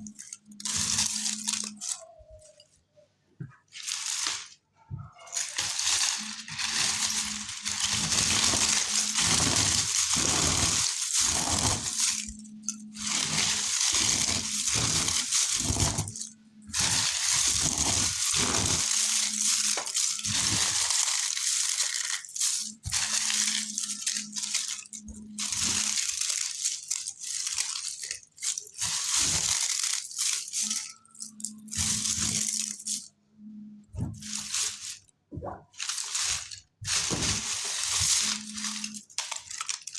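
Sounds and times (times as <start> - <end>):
dry clay crackling as crushed: 0.0 - 2.7, 3.4 - 39.9.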